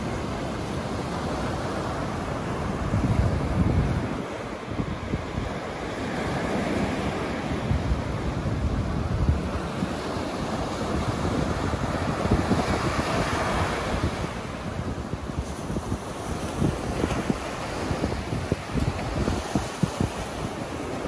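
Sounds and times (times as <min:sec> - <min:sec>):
sea surf breaking on beach: 0:00.0 - 0:21.0
wind buffeting microphone: 0:00.0 - 0:21.0.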